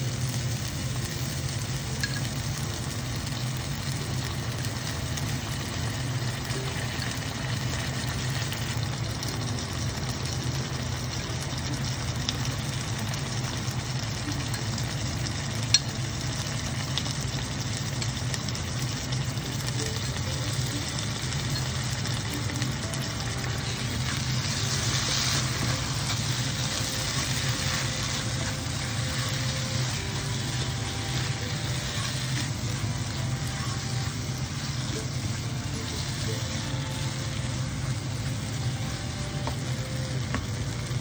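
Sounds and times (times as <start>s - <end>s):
oil sizzling in a pan: 0.0s - 41.0s.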